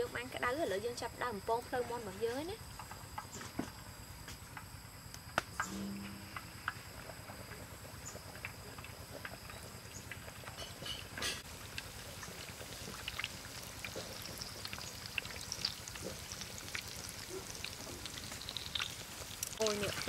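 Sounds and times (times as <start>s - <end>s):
deep-frying sizzle with pops: 0.0s - 20.0s.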